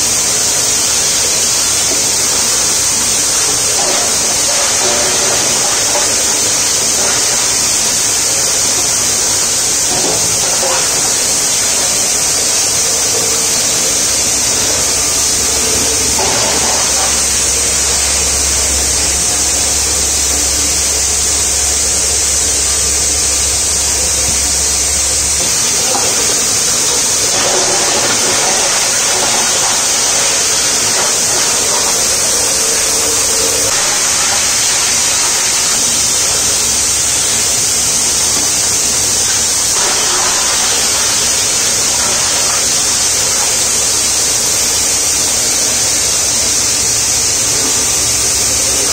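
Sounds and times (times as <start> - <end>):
deeper hum: 0.0 - 48.9.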